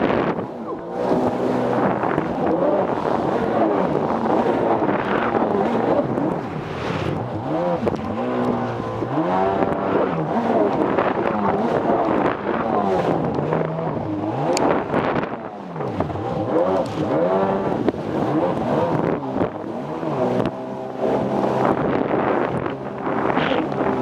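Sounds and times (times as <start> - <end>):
jet ski engine whining: 0.0 - 24.0.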